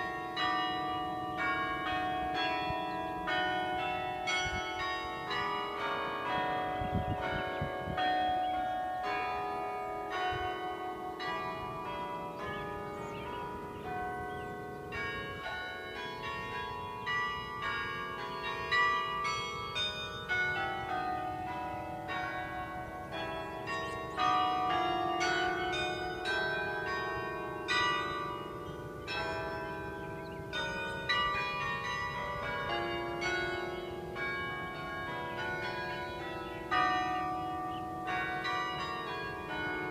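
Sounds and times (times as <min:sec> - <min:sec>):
carillon bells playing melody: 0:00.0 - 0:39.9.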